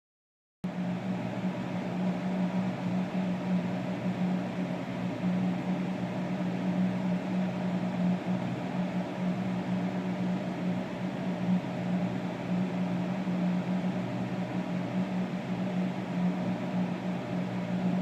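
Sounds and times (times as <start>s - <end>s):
mechanical hum: 0.7s - 18.0s.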